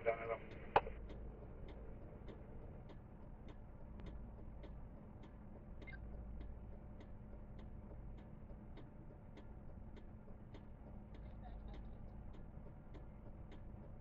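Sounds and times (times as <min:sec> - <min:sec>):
faint flasher relay ticking: 0:00.0 - 0:14.0.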